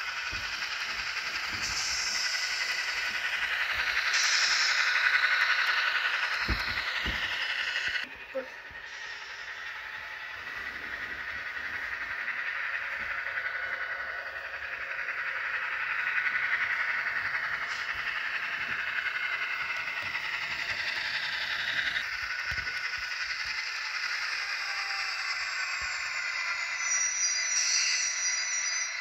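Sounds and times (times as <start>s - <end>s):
model train whirring on track: 0.0s - 29.0s.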